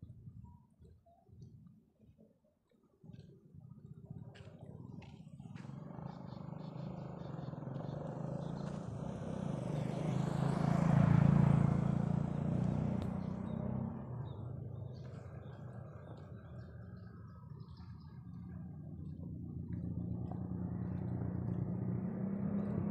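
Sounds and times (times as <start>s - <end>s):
vehicle engine driving past: 4.6s - 22.9s.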